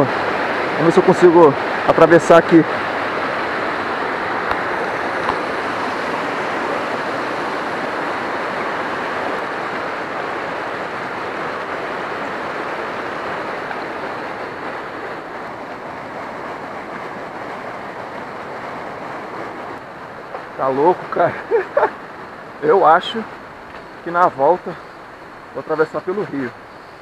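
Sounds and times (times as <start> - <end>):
water rushing in rocky stream: 0.0 - 27.0.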